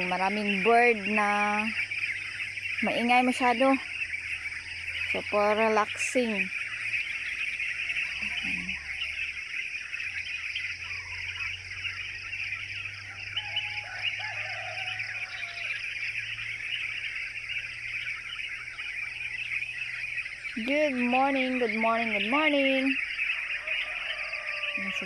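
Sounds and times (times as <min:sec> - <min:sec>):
birds chirping and chattering: 0:00.0 - 0:25.0
low wavering bird calls: 0:00.0 - 0:25.0.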